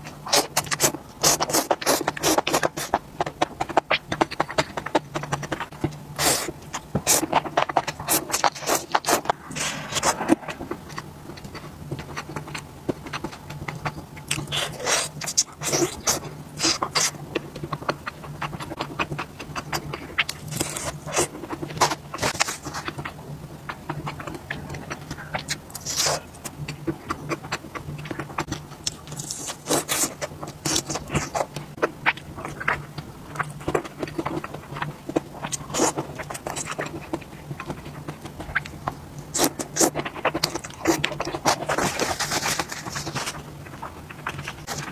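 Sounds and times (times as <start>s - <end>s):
chewing and crunching food: 0.0s - 44.9s
faint low hum: 0.0s - 44.9s.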